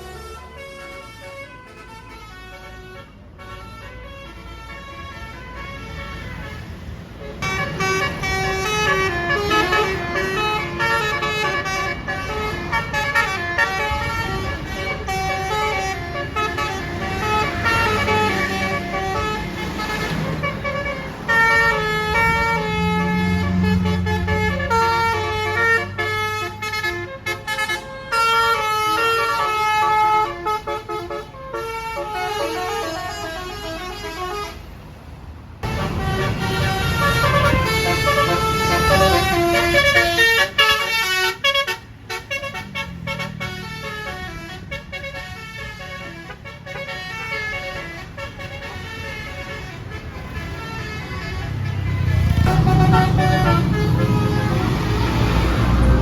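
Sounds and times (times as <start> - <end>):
multi-note bus air horns: 0.0 - 35.0, 35.6 - 56.0
bus engine running: 0.0 - 56.0.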